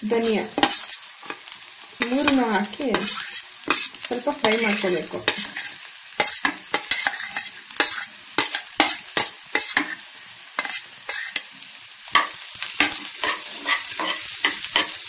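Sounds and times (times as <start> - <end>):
food sizzling in oil: 0.0 - 15.0
spoon scraping and knocking pan: 0.2 - 10.0, 10.6 - 11.5, 12.1 - 15.0.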